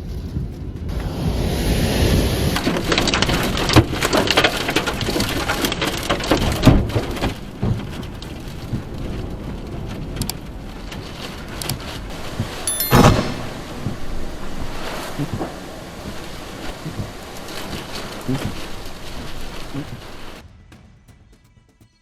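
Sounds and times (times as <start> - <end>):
heavy rain: 0.0 - 12.7, 13.3 - 20.4
wind: 0.0 - 21.4.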